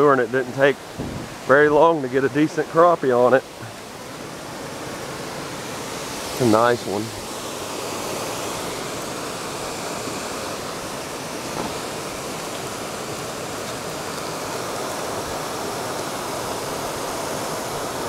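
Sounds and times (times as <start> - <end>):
water rushing over a dam: 0.0 - 18.0.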